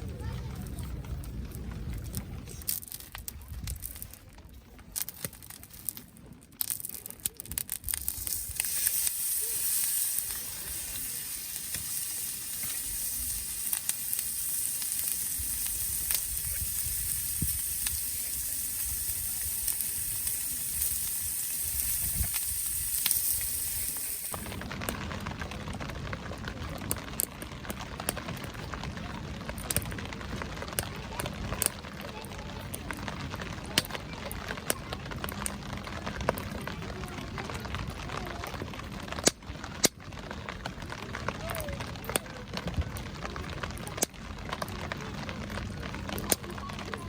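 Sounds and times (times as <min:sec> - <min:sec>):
fire crackles: 0:00.0 - 0:47.0
wood fire hissing: 0:00.1 - 0:47.0.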